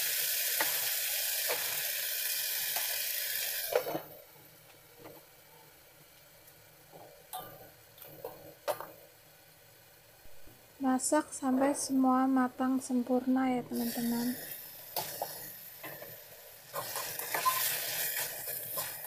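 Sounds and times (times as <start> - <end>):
food sizzling in a wok: 0.0 - 12.0, 13.7 - 19.0.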